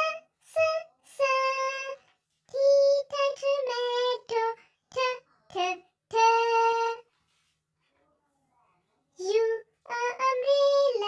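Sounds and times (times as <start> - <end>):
child singing: 0.0 - 7.1, 9.2 - 11.0.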